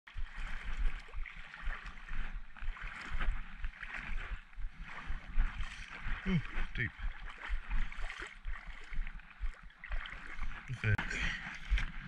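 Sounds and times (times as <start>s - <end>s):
water sloshing and splashing: 0.1s - 12.0s.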